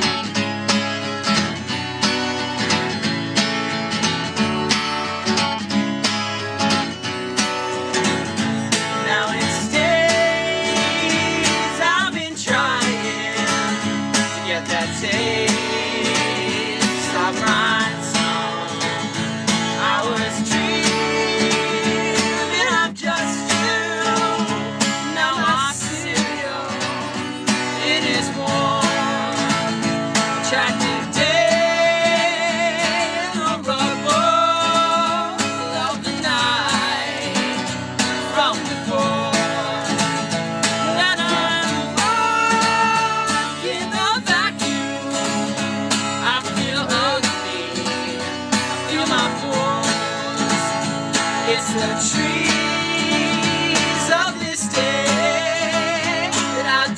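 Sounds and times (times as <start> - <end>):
acoustic guitars strummed: 0.0 - 56.9
person singing: 8.3 - 56.9.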